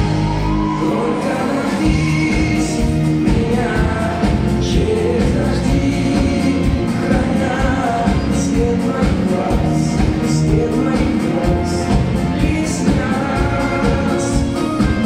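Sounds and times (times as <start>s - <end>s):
man singing pop-rock with band: 0.6s - 15.0s.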